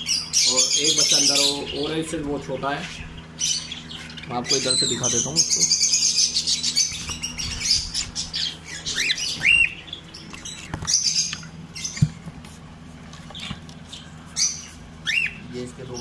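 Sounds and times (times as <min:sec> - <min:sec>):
birds squawking and chirping: 0:00.0 - 0:16.0.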